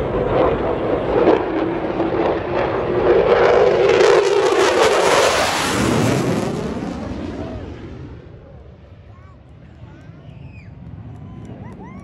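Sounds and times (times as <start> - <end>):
jet passing overhead: 0.0 - 12.0.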